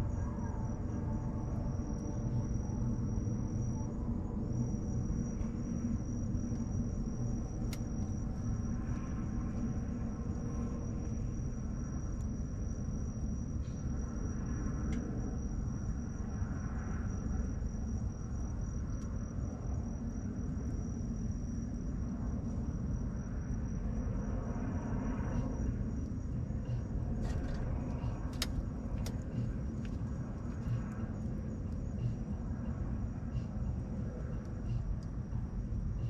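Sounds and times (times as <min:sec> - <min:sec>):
high insect trill: 0:00.0 - 0:36.0.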